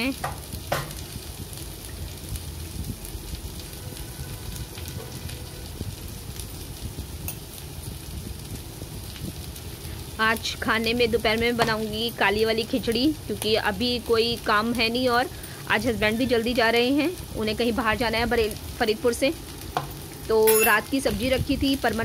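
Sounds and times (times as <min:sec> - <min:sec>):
chickpeas sizzling in hot oil: 0:00.0 - 0:22.0.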